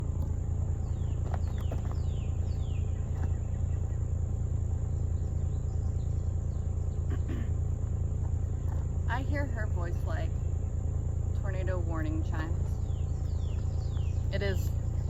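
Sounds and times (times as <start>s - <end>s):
descending bird calls: 0.0s - 15.0s
high insect drone: 0.0s - 15.0s
low rumble: 0.0s - 15.0s.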